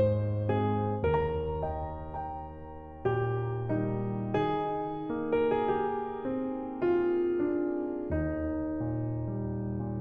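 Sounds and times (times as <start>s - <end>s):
slow piano chords on keyboard: 0.0s - 10.0s.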